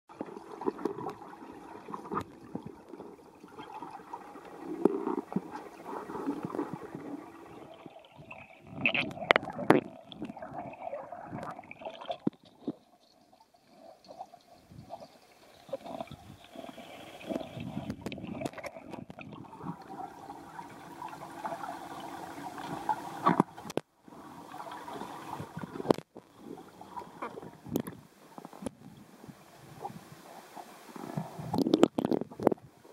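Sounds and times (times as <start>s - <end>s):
water sloshing and splashing: 0.1s - 29.0s, 29.7s - 32.9s.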